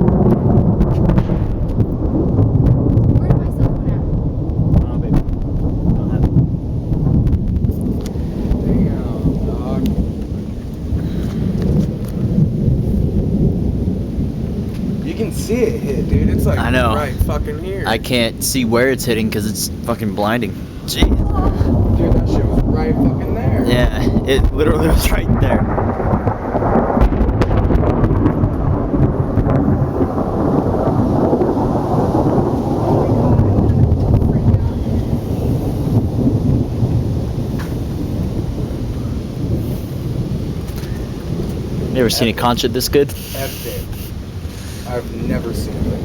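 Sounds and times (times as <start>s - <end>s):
steady rain: 0.0s - 46.0s
thunder rumbling: 0.0s - 46.0s.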